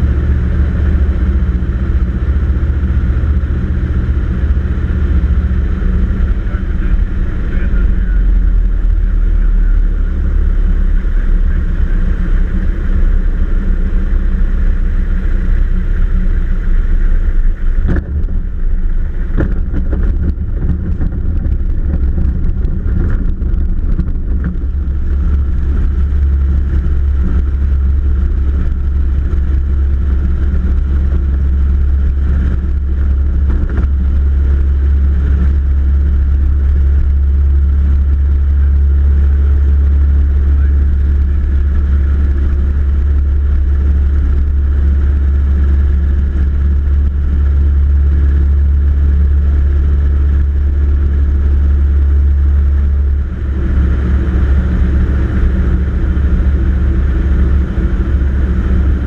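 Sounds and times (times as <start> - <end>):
small plane engine droning: 0.0 - 59.0.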